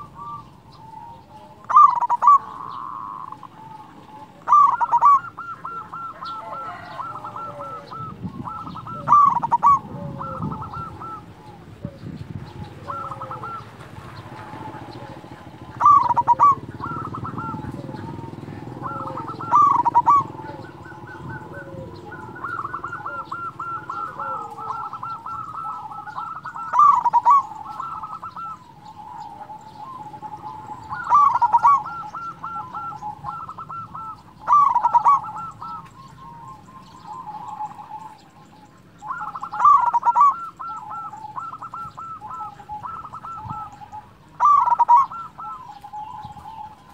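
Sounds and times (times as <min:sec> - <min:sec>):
dove cooing song: 0:00.0 - 0:46.9.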